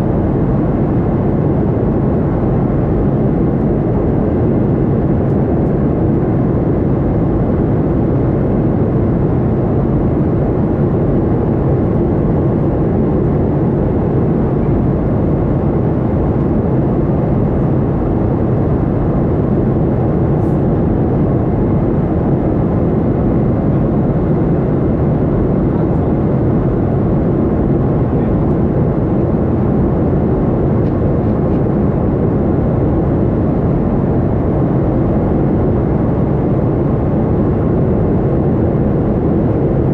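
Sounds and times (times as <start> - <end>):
jet engine rumble in flight: 0.0 - 39.9.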